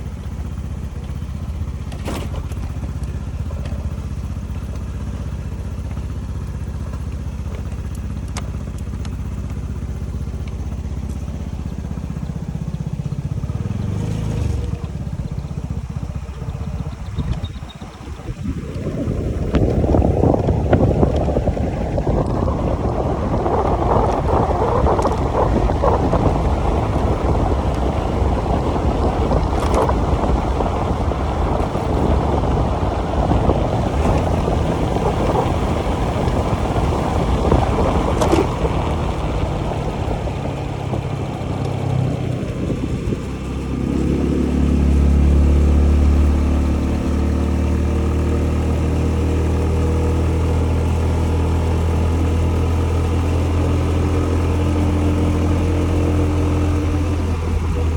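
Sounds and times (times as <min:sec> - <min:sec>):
scooter engine running: 0:00.0 - 0:57.9
wind buffeting microphone: 0:00.0 - 0:57.9.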